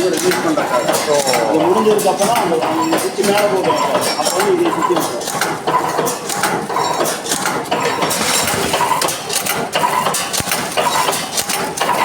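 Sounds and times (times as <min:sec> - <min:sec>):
packing machine clattering: 0:00.0 - 0:12.0
sharp metallic clicks: 0:00.1 - 0:08.1, 0:08.8 - 0:12.0.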